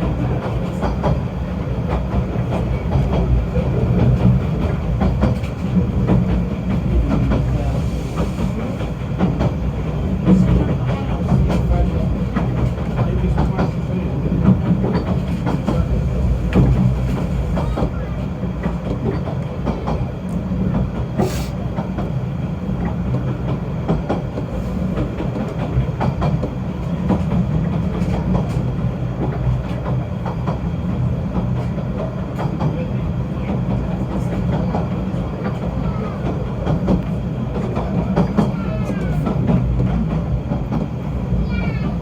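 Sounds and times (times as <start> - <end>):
train low rumble: 0.0 - 42.0
wheels clicking on track: 0.0 - 42.0.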